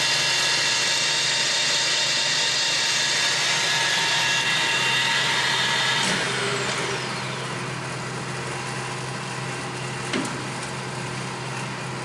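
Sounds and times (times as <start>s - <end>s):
lathe gear whine: 0.0s - 10.1s.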